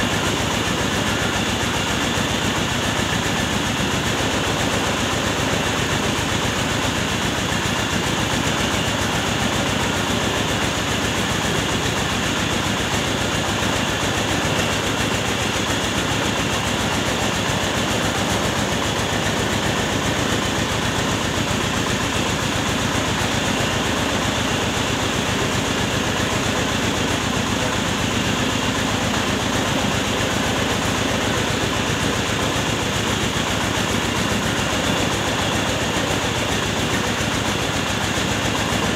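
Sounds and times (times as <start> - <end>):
rice mill mechanical din: 0.0 - 38.9.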